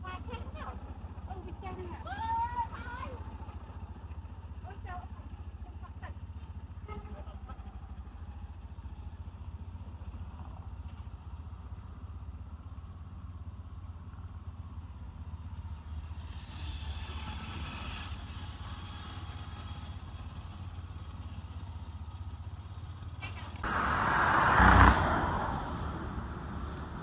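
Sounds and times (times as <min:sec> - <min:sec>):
vehicle engine idling: 0:00.0 - 0:16.7, 0:18.0 - 0:27.0.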